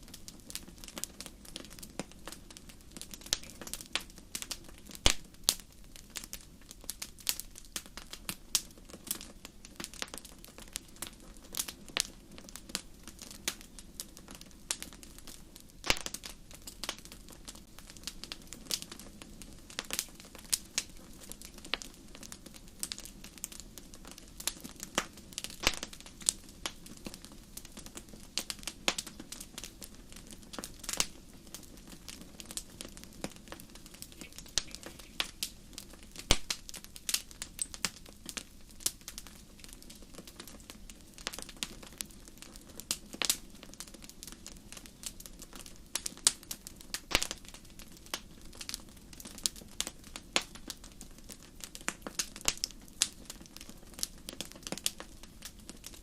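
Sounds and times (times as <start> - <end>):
campfire crackling and popping: 0.0 - 56.0
low hiss of burning fire: 0.0 - 56.0.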